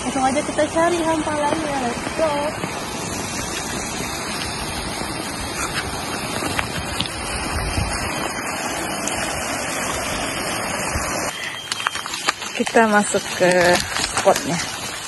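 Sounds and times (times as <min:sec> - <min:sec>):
rushing flowing water: 0:00.0 - 0:15.0.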